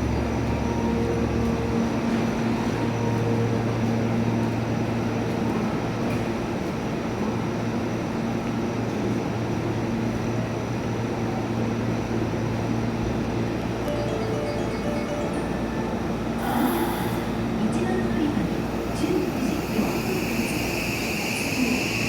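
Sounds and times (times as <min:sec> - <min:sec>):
electric train equipment hum: 0:00.0 - 0:22.0.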